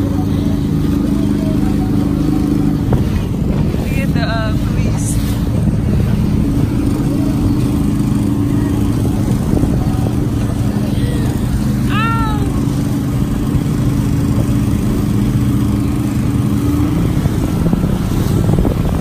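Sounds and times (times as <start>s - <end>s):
outboard motor running: 0.0s - 19.0s
wind and water rushing: 0.0s - 19.0s.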